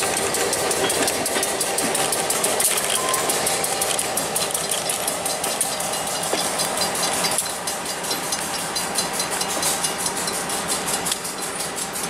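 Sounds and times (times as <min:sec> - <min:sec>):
locomotive engine throbbing: 0:00.0 - 0:12.0.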